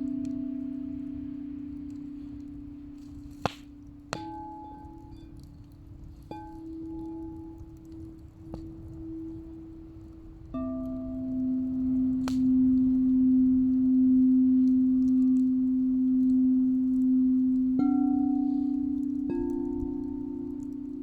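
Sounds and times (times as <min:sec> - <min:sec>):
singing bowls ringing: 0:00.0 - 0:03.4, 0:04.0 - 0:21.0.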